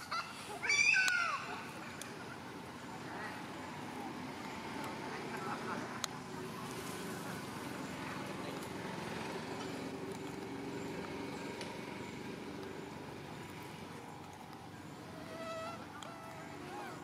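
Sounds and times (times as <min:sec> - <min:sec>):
distant engine humming: 0:00.0 - 0:17.0.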